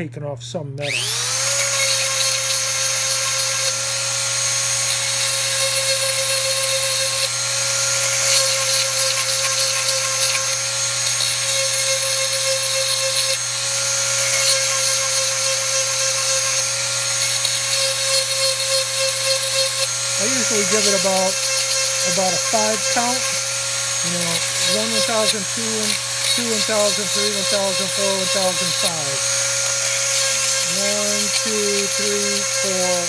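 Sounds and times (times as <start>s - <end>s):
rotary tool grinding metal: 0.8s - 33.0s.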